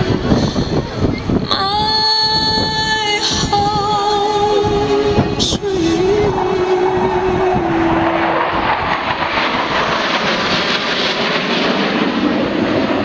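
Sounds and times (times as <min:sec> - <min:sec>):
steady held tone: 0:00.0 - 0:11.5
jet engines rushing overhead: 0:00.0 - 0:13.0.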